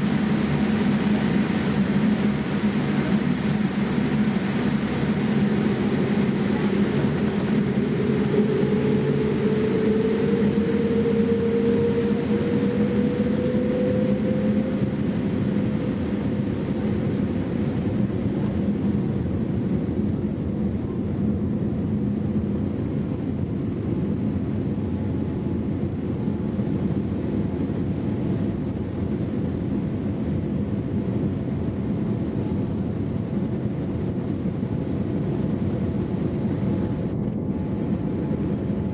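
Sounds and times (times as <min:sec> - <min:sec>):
airliner cabin engine noise: 0:00.0 - 0:38.9.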